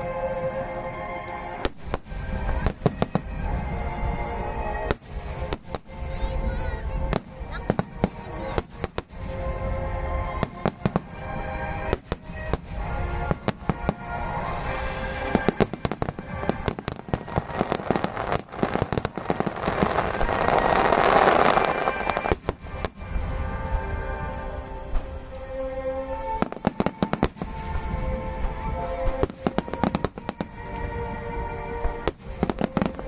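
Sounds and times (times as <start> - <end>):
music: 0.0 - 33.0
fireworks bangs and crackles: 1.3 - 23.9, 26.2 - 33.0.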